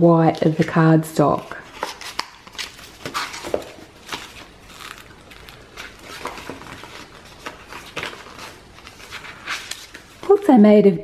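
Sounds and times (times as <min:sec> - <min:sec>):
paper pages rustling: 0:00.2 - 0:10.4.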